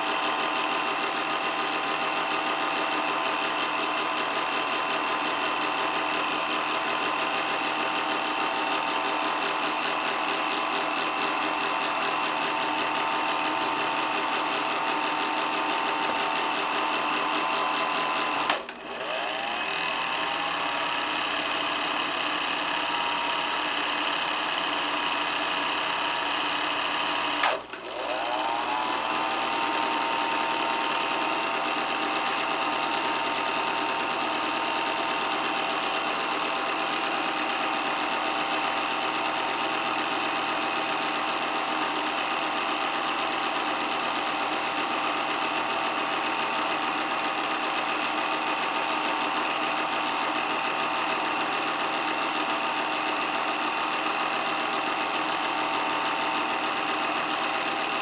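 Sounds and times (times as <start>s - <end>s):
film projector whirring and clattering: 0.0s - 58.0s.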